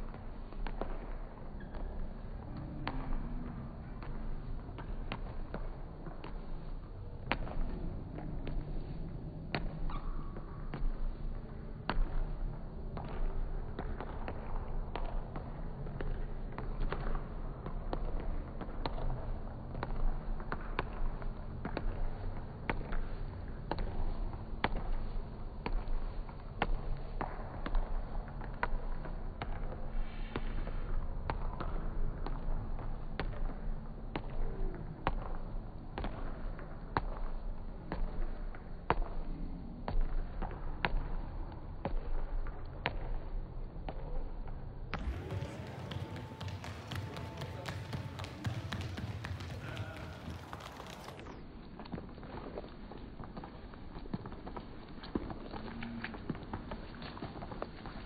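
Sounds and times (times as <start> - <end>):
sharp knocks in a hall: 0.0 - 51.4.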